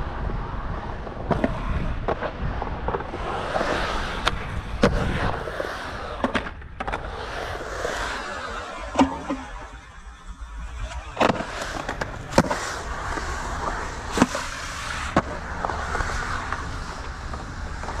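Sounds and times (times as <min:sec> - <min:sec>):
skateboard wheels rolling on concrete: 0:00.0 - 0:18.0.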